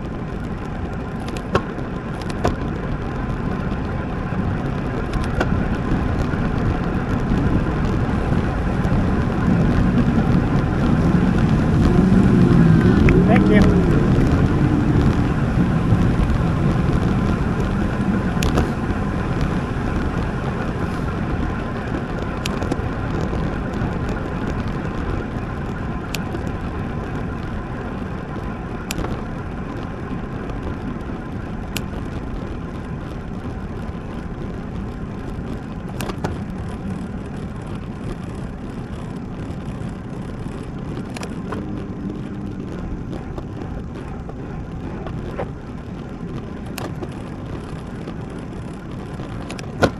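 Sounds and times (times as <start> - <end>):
bicycle road noise: 0.0 - 49.9
wind rush: 0.0 - 49.9.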